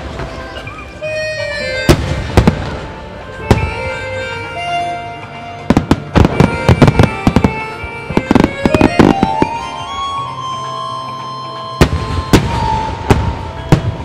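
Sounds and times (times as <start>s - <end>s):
music: 0.0s - 14.0s.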